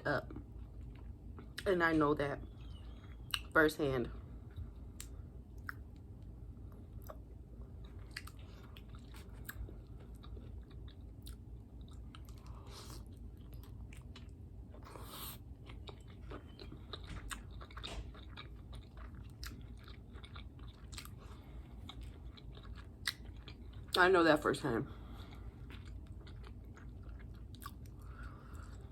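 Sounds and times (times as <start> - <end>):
person chewing food: 0.3 - 1.6, 2.5 - 3.5, 4.1 - 24.1, 24.9 - 28.9.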